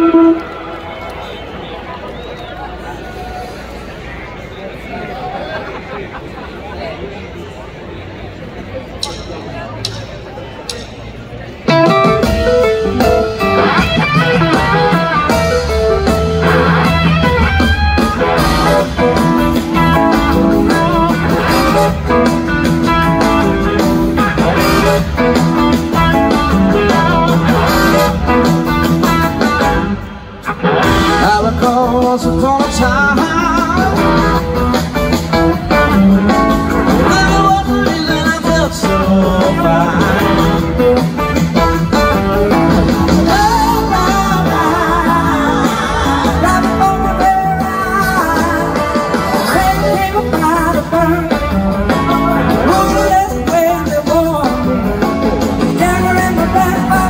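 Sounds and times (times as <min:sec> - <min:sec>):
electric guitar: 0:00.0 - 0:01.4, 0:11.7 - 0:57.0
live blues-rock band playing: 0:00.0 - 0:03.9, 0:08.8 - 0:57.0.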